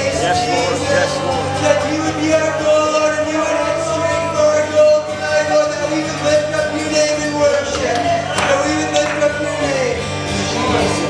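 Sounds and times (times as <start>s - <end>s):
worship band playing chords: 0.0s - 11.0s.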